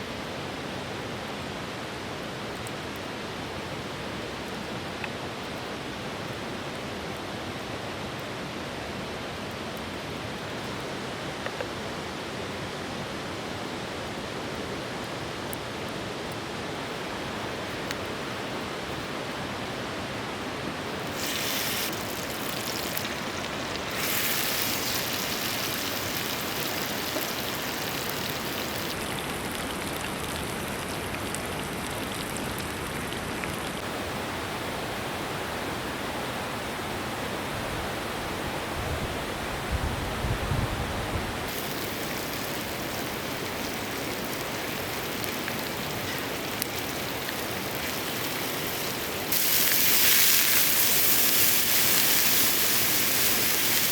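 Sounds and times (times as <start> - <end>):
mountain river rushing: 0.1 - 39.7, 40.8 - 53.9.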